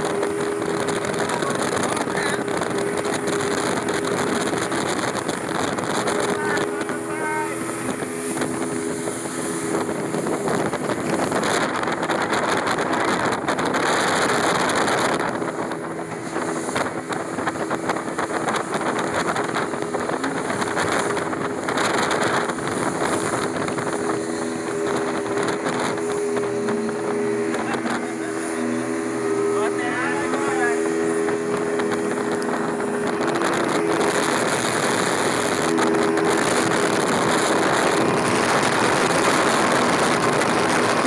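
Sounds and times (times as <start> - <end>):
motorboat engine drone: 0.0 - 41.0
rush of wind and spray: 0.0 - 41.0.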